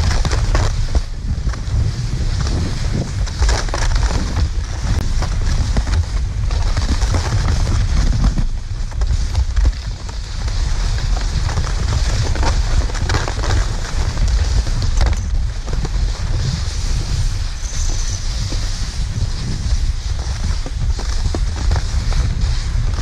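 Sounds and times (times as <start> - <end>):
skis sliding on snow: 0.0 - 23.0
wind buffeting microphone: 0.0 - 23.0.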